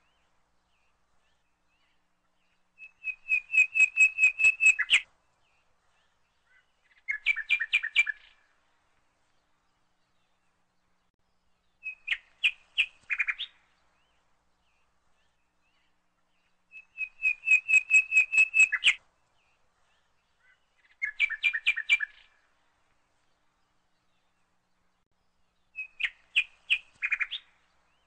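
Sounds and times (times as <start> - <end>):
bird chirping: 0.0 - 8.5, 9.2 - 22.4, 23.1 - 28.0.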